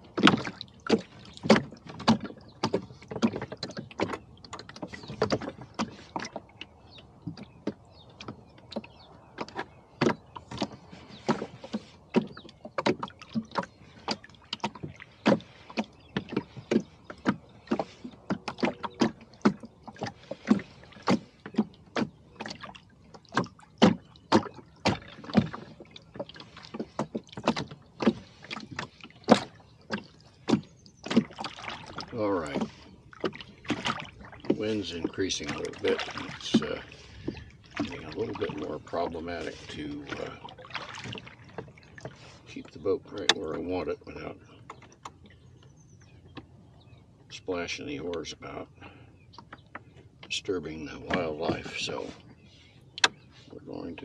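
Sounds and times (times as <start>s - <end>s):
water slapping against boat hull: 0.0s - 54.0s.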